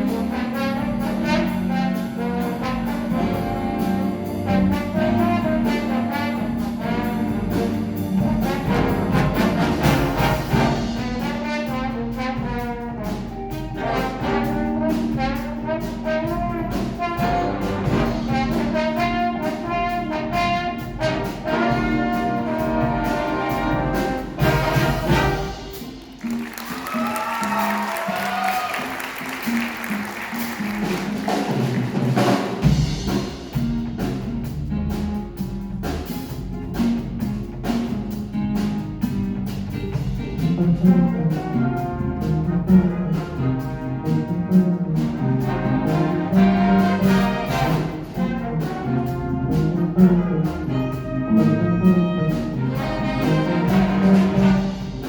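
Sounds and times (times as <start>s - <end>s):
brass instrumental music: 0.0s - 55.0s.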